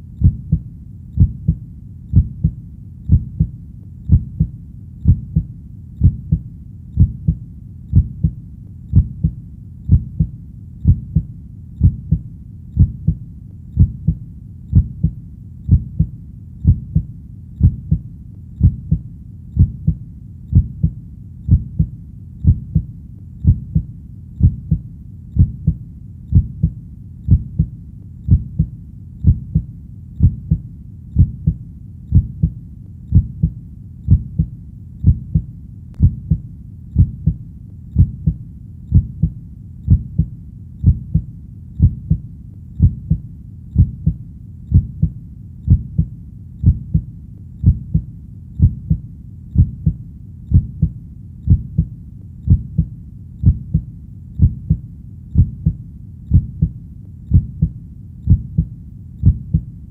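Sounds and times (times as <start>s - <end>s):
heartbeat thuds: 0.0s - 13.2s, 13.8s - 59.7s.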